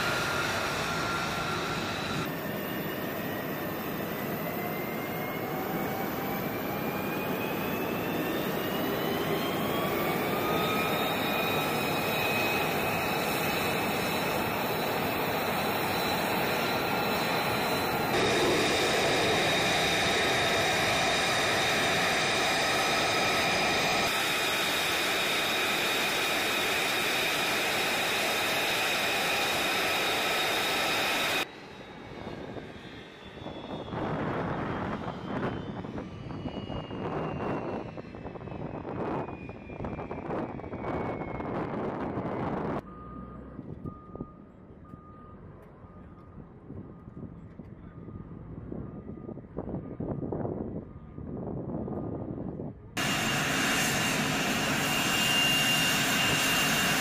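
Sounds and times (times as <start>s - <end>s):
rush of wind: 0.0s - 44.4s, 46.1s - 57.0s
jet engine roar and turbine whine: 0.0s - 57.0s.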